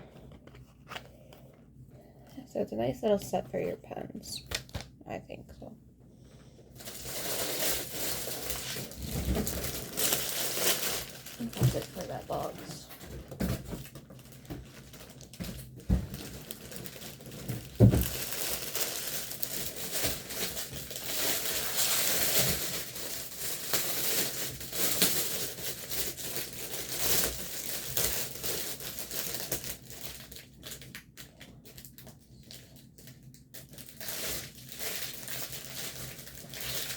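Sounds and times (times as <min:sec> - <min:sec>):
packaging crinkling: 0:06.8 - 0:36.9.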